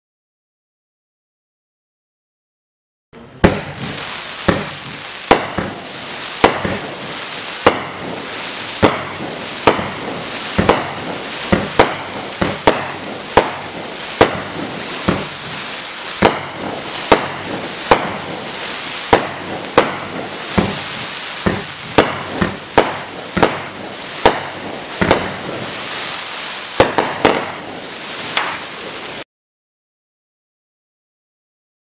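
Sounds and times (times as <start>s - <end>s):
fireworks hiss: 3.2s - 29.2s
fireworks reports: 3.2s - 29.2s.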